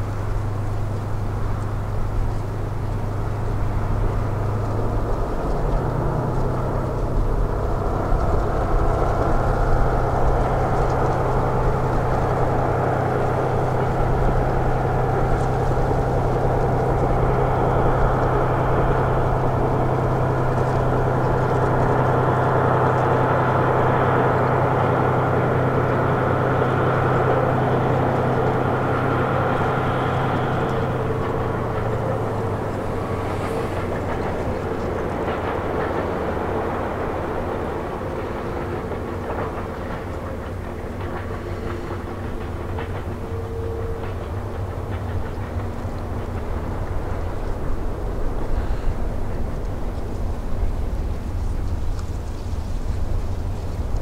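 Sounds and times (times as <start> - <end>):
locomotive engine running: 0.0 - 54.0
train on rails: 0.0 - 54.0.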